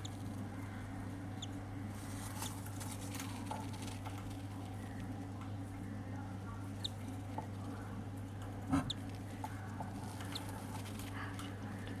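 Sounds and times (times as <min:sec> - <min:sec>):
bird chick peeping: 0:00.0 - 0:12.0
steady low hum: 0:00.0 - 0:12.0.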